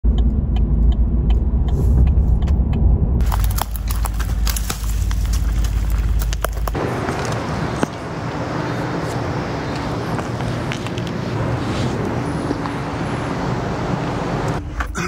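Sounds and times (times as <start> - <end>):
road traffic rush: 0.0 - 15.0.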